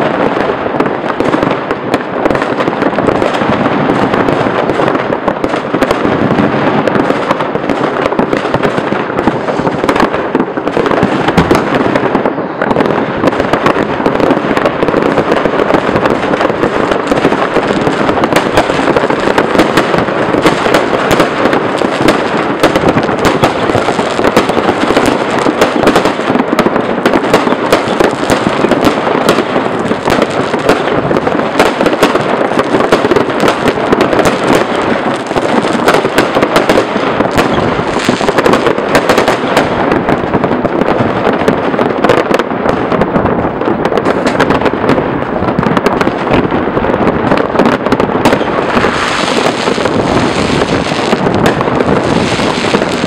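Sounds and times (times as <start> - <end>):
fireworks and firecrackers banging: 0.0 - 53.0.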